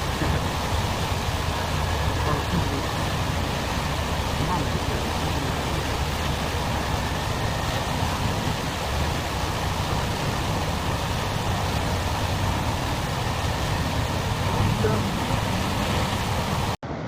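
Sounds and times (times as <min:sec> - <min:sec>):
floodwater rushing: 0:00.0 - 0:16.8
vehicle engine rumbling: 0:00.0 - 0:17.0.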